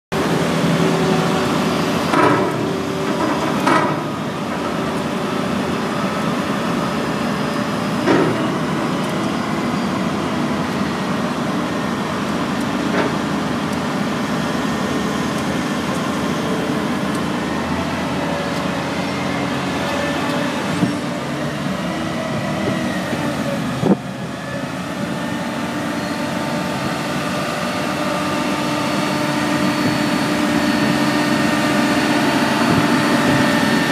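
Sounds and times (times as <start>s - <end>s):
crane truck engine running: 0.2s - 33.9s.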